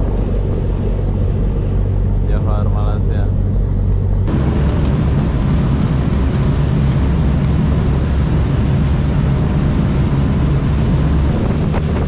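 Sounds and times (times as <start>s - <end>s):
broad rushing noise: 0.0s - 12.0s
ferry engines droning: 0.0s - 12.0s.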